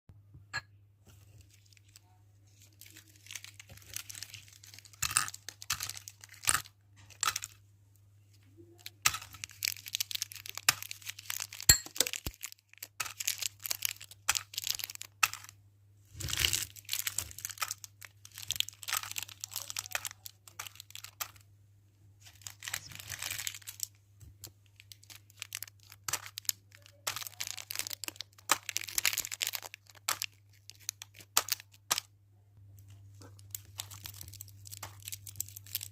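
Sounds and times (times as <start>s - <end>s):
faint low hum: 0.1s - 35.9s
plastic wrappers crinkling: 1.1s - 7.6s, 8.2s - 21.5s, 22.2s - 32.1s, 32.8s - 35.9s.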